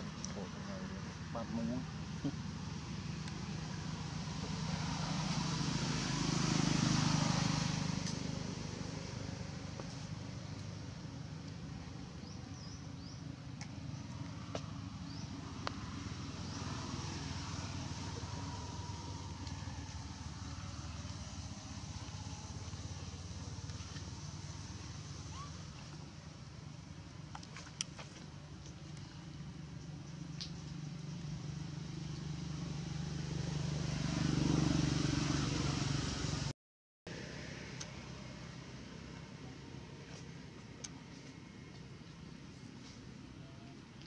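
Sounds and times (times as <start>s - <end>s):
vehicle passing by: 0.0s - 27.0s, 27.9s - 36.5s, 37.1s - 44.0s
low engine hum: 0.0s - 36.5s, 37.1s - 44.0s.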